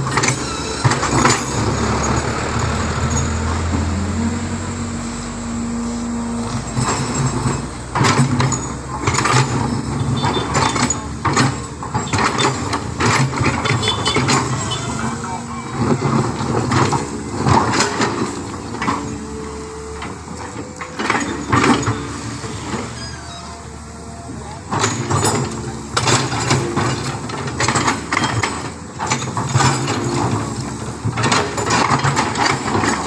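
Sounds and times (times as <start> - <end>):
irregular clanks and knocks: 0.0 - 4.1, 6.6 - 23.0, 24.6 - 33.0
truck engine running: 0.0 - 33.0.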